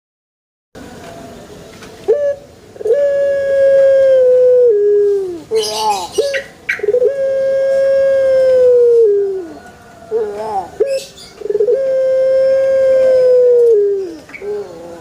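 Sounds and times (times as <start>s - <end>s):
dove calling: 2.0s - 15.0s.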